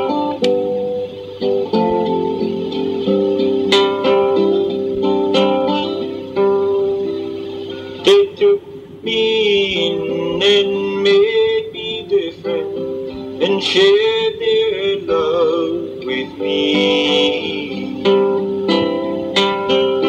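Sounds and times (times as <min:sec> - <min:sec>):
plucked strings instrumental: 0:00.0 - 0:20.0.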